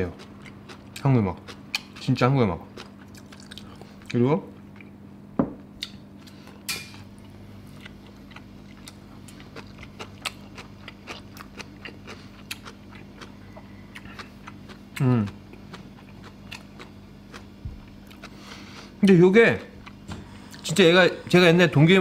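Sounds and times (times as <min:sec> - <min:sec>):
chewing crunchy cabbage: 0:00.0 - 0:05.0, 0:05.8 - 0:20.8
steady low hum: 0:00.0 - 0:22.0.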